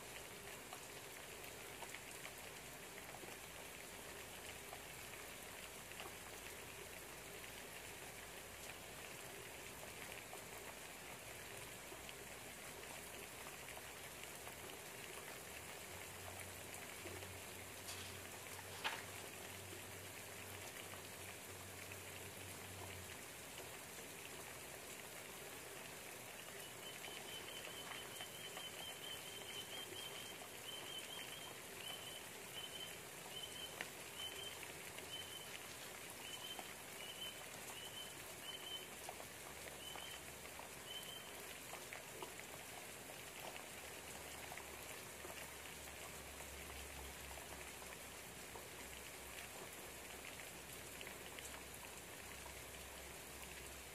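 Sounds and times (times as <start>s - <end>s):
rain pattering: 0.0s - 53.9s.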